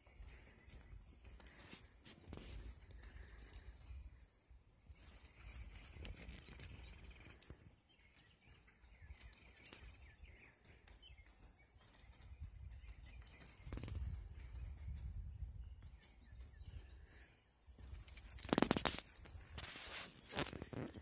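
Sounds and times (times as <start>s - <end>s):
birds chirping softly: 0.0s - 21.0s.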